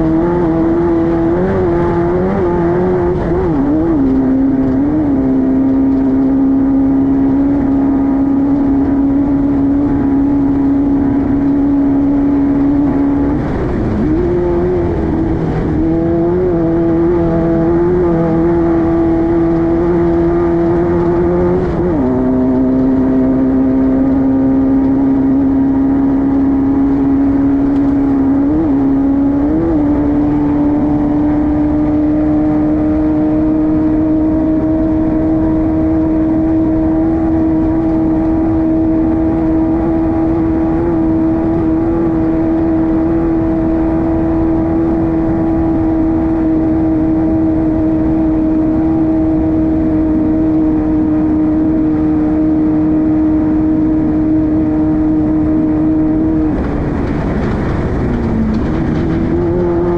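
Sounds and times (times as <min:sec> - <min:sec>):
race car engine high revs: 0:00.0 - 0:59.9
wind and terrain rumble: 0:00.0 - 0:59.9.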